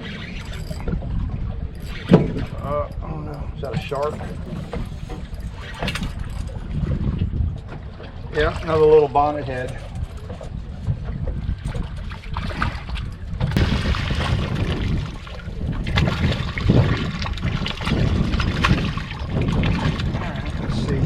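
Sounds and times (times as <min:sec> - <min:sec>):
water splashing against boat: 0:00.0 - 0:21.0
wind rumble on microphone: 0:00.0 - 0:21.0.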